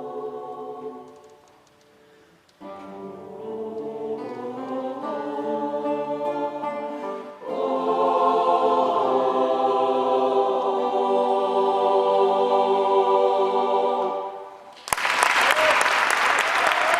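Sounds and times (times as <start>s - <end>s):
choir singing: 0.0s - 1.6s, 2.6s - 14.7s.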